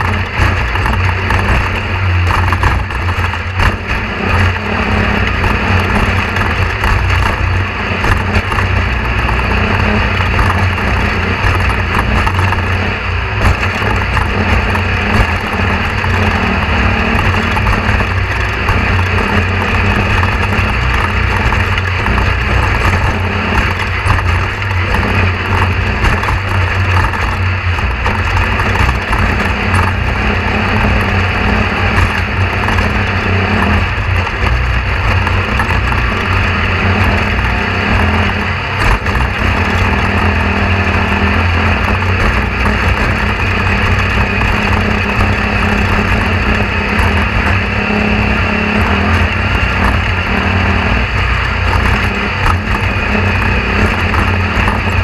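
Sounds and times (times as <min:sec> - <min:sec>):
motor running drone: 0:00.0 - 0:55.0.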